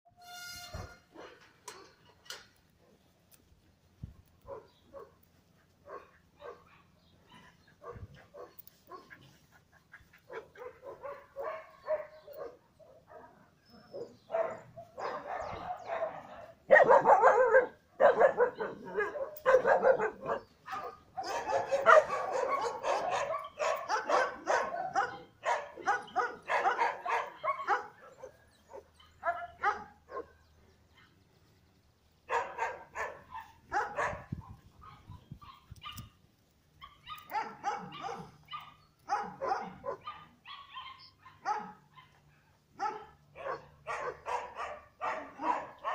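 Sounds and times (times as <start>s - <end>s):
dogs barking and yipping: 0.7s - 3.1s, 4.3s - 31.4s, 32.2s - 45.9s.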